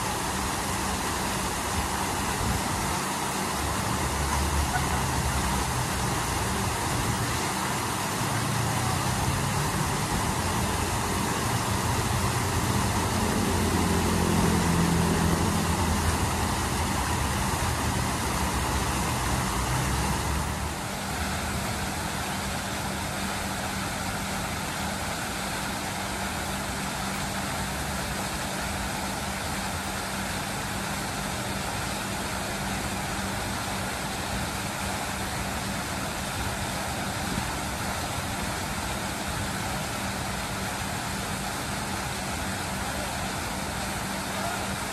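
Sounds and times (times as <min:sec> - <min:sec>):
fountain water splashing: 0:00.0 - 0:44.9
heavy engine rumble: 0:00.0 - 0:44.9
road traffic: 0:00.0 - 0:44.9.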